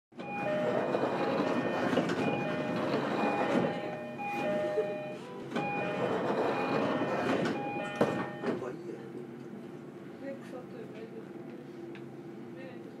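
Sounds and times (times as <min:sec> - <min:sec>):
train running rumble: 0:00.2 - 0:12.6.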